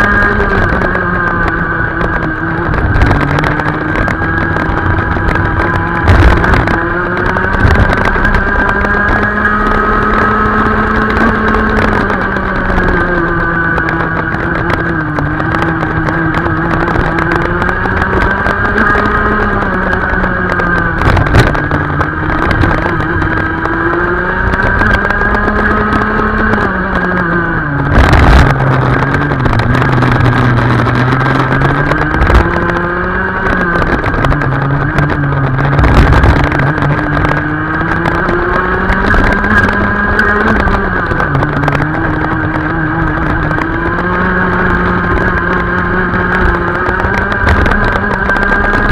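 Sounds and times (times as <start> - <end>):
racing kart engine: 0.0 - 48.9
sharp thumps: 0.0 - 48.9.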